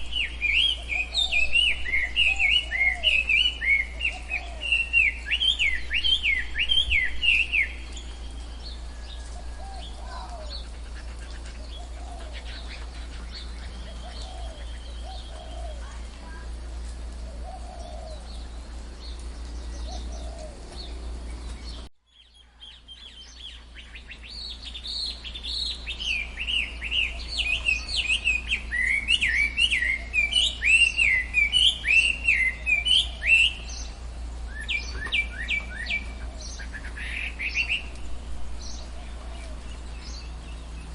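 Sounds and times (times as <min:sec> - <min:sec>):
birds chirping: 0:00.0 - 0:40.9
low steady hum: 0:00.0 - 0:40.9
soft low bird calls: 0:00.0 - 0:40.9.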